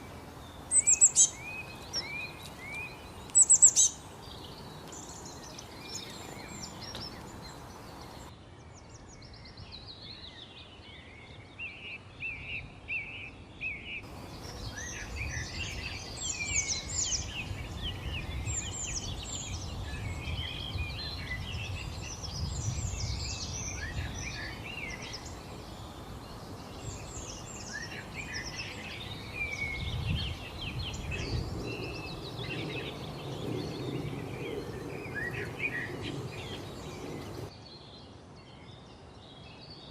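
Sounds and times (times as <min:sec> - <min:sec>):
wild birds singing: 0:00.0 - 0:39.9.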